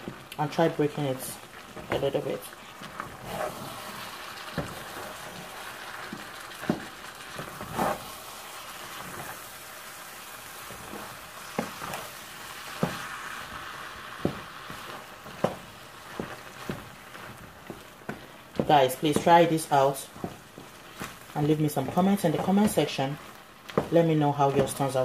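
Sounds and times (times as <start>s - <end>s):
sizzling hiss from pot: 0.0s - 25.0s
wooden spoon stirring porridge: 0.0s - 25.0s.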